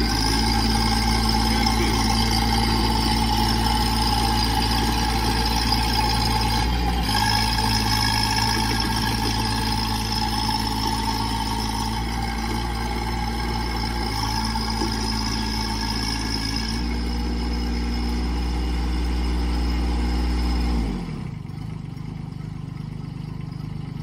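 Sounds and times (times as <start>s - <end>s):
small diesel engine running: 0.0s - 24.0s.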